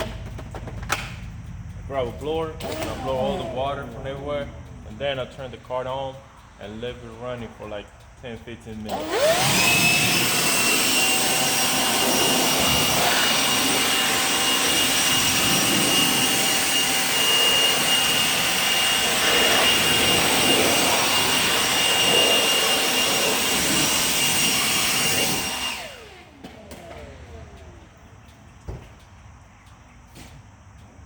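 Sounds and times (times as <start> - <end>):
blower whining: 0.0 - 31.0.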